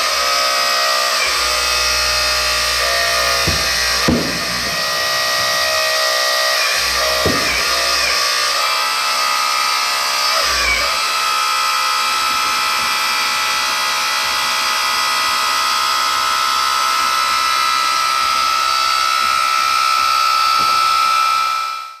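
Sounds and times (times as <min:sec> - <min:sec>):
hydraulic pump whining: 0:00.0 - 0:22.0.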